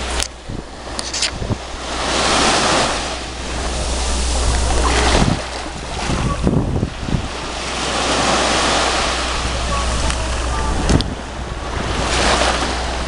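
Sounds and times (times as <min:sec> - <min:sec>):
surf washing up a beach: 0:00.0 - 0:13.0
wind buffeting microphone: 0:00.0 - 0:13.0.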